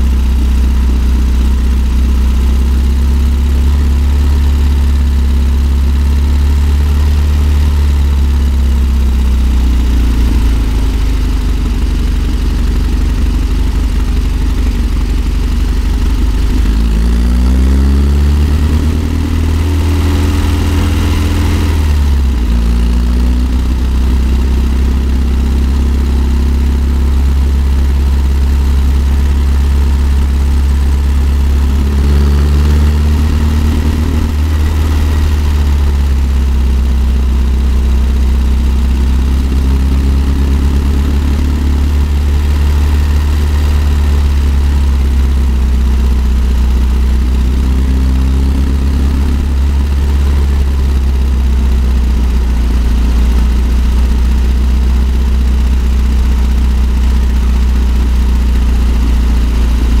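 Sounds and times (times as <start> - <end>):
van engine pulling uphill: 0.0 - 60.0.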